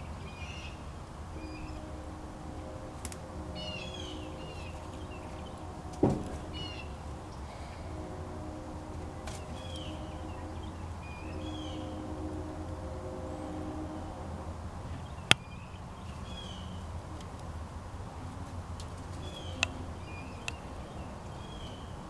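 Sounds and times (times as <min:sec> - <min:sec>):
low drone: 0:00.0 - 0:22.0.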